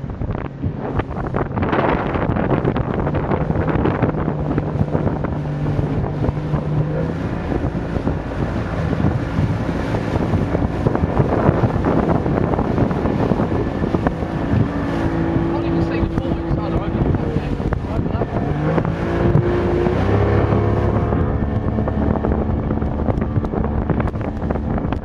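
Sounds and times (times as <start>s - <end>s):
speedboat engine running: 0.0s - 25.0s
wind buffeting microphone: 0.0s - 25.0s.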